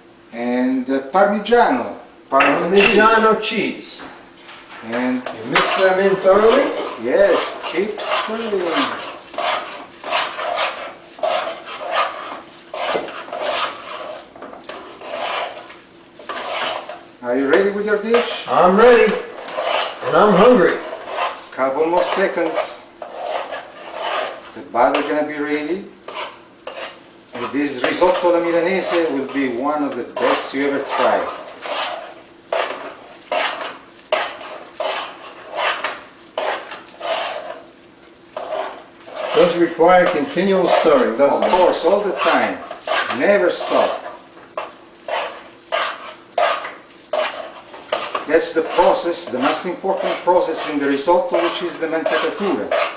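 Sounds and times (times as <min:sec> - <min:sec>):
spoon scraping a pan: 0:02.4 - 0:03.6, 0:04.4 - 0:52.9.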